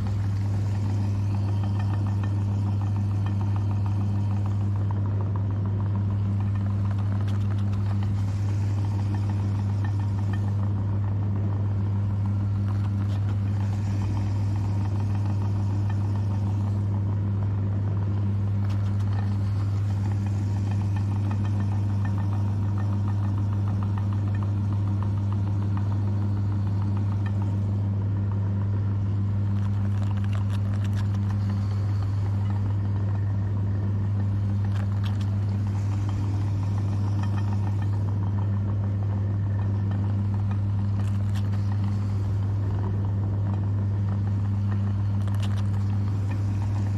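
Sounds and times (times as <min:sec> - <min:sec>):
electric meat grinder motor hum: 0:00.0 - 0:46.9
faint crackles: 0:00.0 - 0:46.9.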